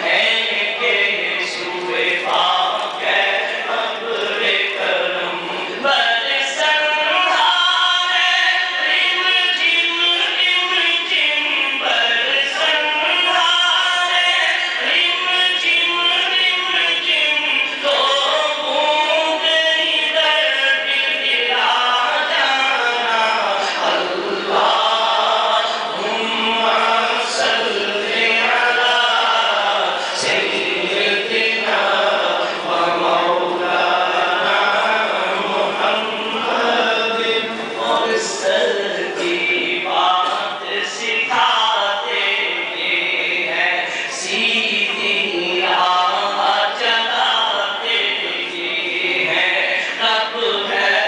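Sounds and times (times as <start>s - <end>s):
man chanting into a microphone: 0.0s - 51.0s.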